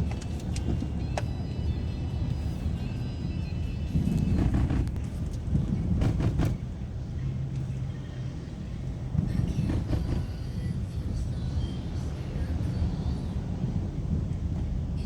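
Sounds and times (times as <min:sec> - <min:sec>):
traffic engines and road noise: 0:00.0 - 0:15.0.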